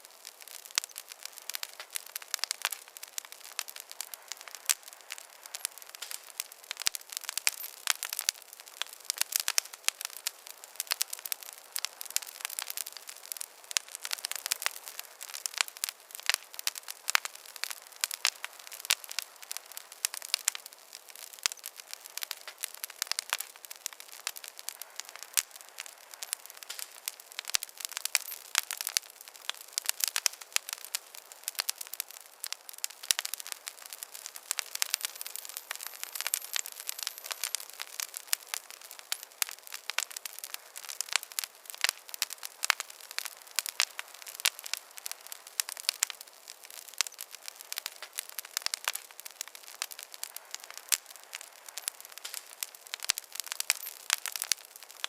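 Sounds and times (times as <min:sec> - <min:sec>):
campfire crackling: 0:00.0 - 0:55.0
soft hiss: 0:00.0 - 0:55.0.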